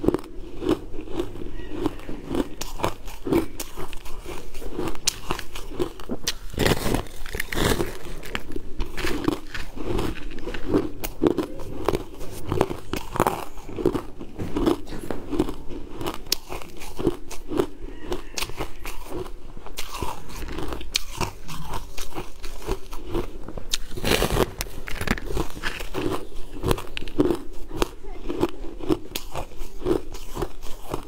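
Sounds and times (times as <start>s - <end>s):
chewing and crunching ice: 0.0s - 31.0s
crunching bite into ice: 0.0s - 31.0s.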